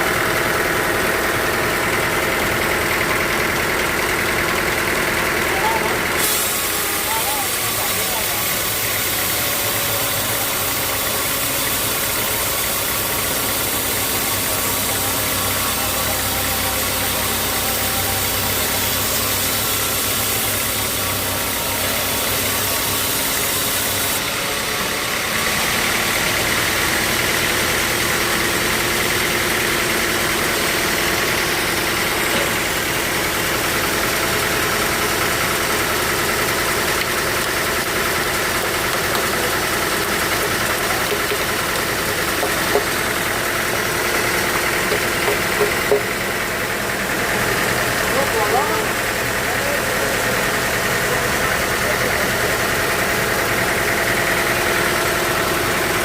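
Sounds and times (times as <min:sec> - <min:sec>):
high machine whine: 0:00.0 - 0:56.0
sawmill machinery running: 0:00.0 - 0:56.0.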